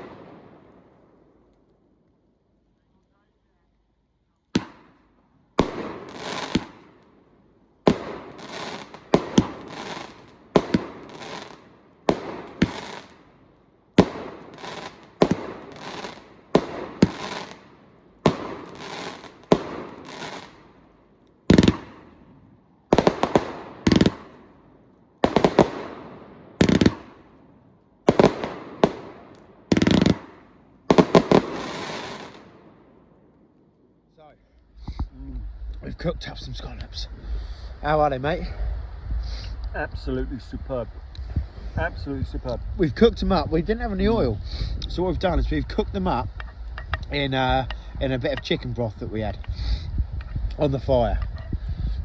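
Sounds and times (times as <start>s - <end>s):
fireworks bangs crackling: 0.0s - 0.8s, 4.6s - 7.1s, 7.8s - 24.5s, 25.2s - 27.4s, 28.0s - 32.7s, 34.8s - 51.4s.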